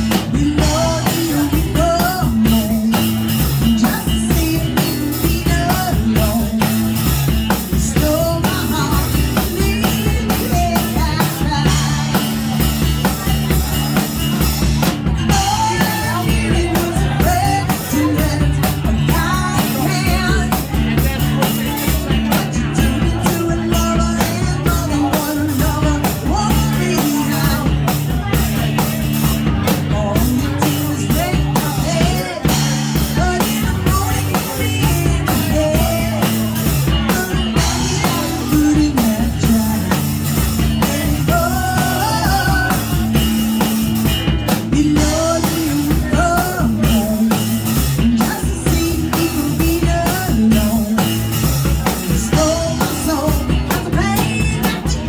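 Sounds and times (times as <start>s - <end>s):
drum kit beat: 0.0s - 55.0s
person singing: 0.0s - 55.0s
rock band playing: 0.0s - 55.0s.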